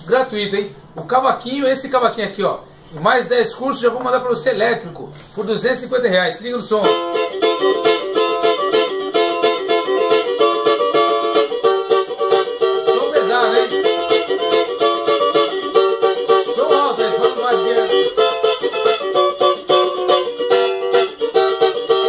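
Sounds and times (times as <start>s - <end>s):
cavaquinho strummed: 0.0s - 22.0s.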